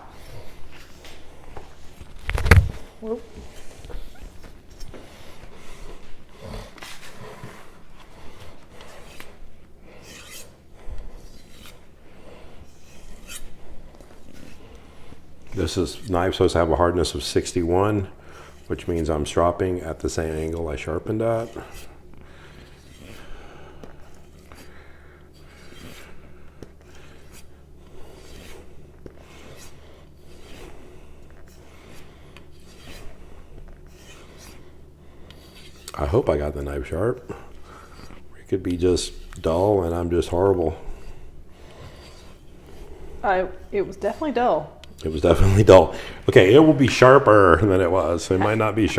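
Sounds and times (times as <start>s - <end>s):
knife blade rubbing on a strop: 3.4s - 16.7s, 17.3s - 19.3s, 20.0s - 36.3s, 39.0s - 46.8s.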